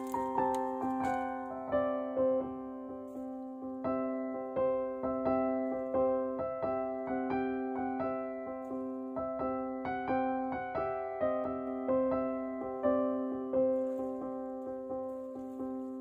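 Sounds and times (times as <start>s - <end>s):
slow keyboard melody: 0.0s - 16.0s.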